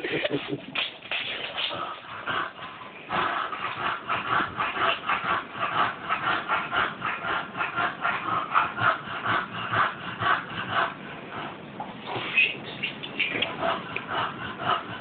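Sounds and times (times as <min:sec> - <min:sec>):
dog panting: 0:00.1 - 0:15.0.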